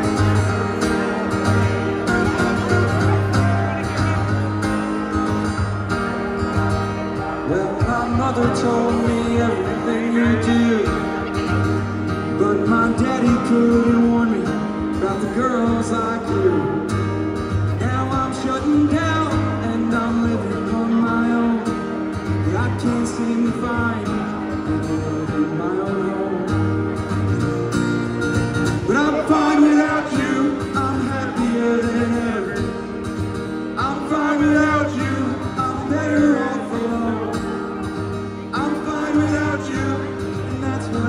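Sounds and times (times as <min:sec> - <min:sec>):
guitar accompaniment: 0:00.0 - 0:41.0
man singing: 0:01.0 - 0:04.4, 0:07.4 - 0:17.0, 0:17.6 - 0:26.7, 0:28.8 - 0:32.9, 0:33.7 - 0:41.0.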